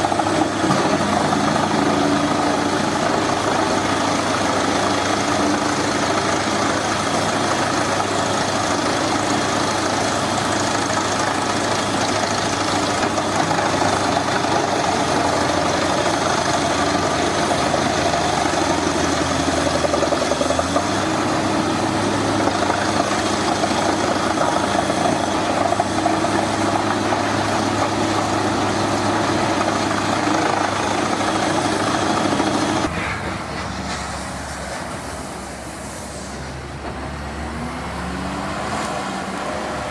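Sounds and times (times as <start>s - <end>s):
heavy machine engine running: 0.0s - 39.9s.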